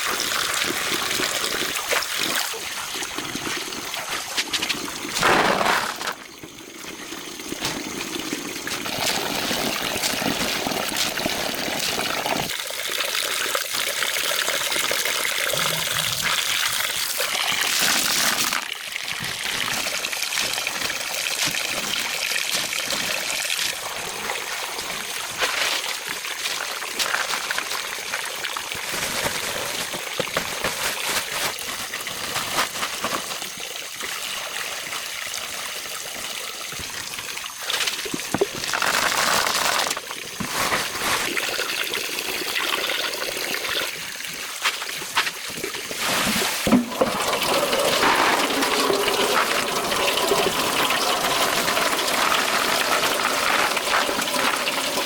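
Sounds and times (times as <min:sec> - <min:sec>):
water trickling and running: 0:00.0 - 0:05.2, 0:05.8 - 0:55.0.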